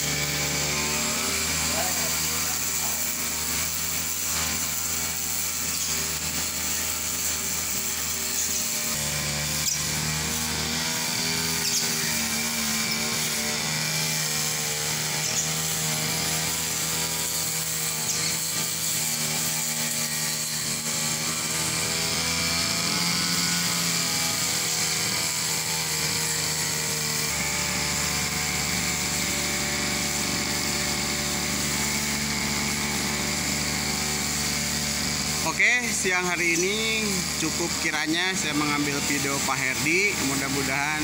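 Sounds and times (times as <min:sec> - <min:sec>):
brush cutter engine running: 0:00.0 - 0:41.0
cutting head trimming grass: 0:00.0 - 0:41.0.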